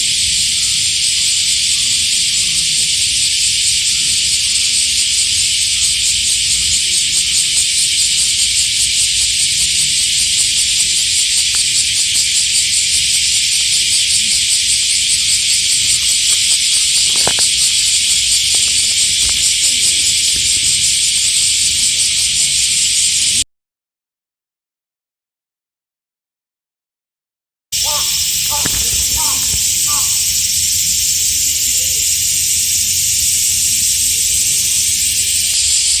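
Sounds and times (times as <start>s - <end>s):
cicadas shrilling: 0.0s - 23.4s, 27.8s - 36.0s.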